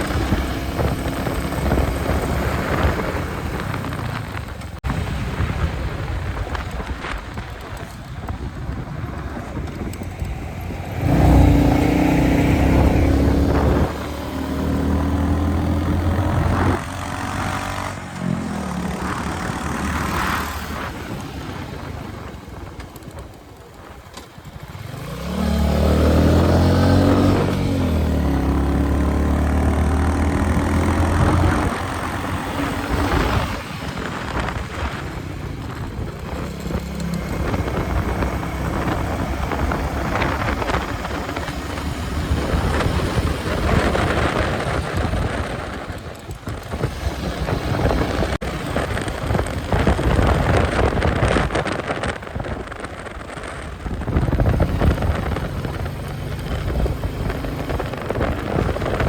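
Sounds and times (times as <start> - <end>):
motorcycle engine and exhaust: 0.0 - 59.0.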